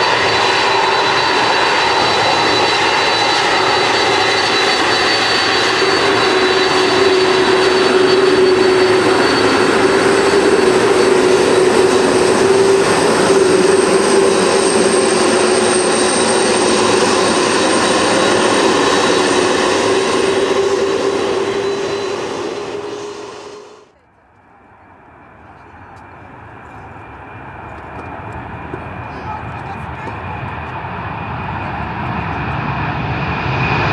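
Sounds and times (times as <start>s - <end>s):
jet engines roaring with whine: 0.0s - 33.9s.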